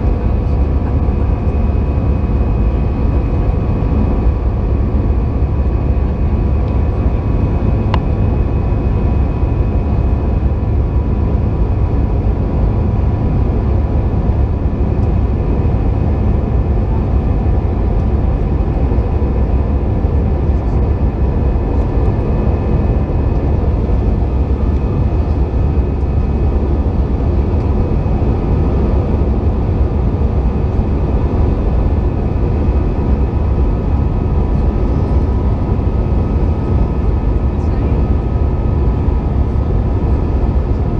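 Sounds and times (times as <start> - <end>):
jet engine cabin rumble: 0.0 - 40.9
steady whining tones: 0.0 - 40.9.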